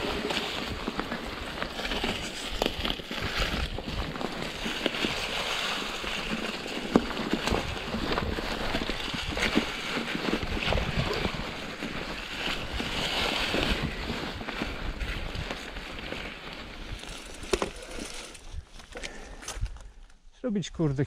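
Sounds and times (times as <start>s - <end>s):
bike rattling and knocking: 0.0s - 18.6s
tyre and wind noise: 0.0s - 20.1s.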